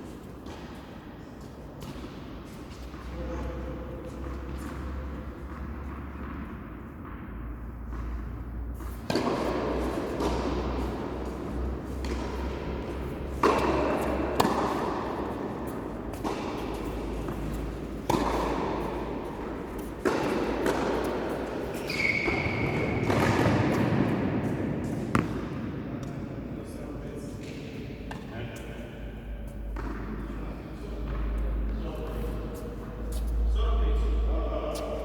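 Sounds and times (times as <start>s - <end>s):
tennis balls bouncing on court: 1.4s - 26.2s, 29.6s - 32.9s
rackets hitting tennis balls: 1.8s - 26.4s, 29.2s - 33.3s.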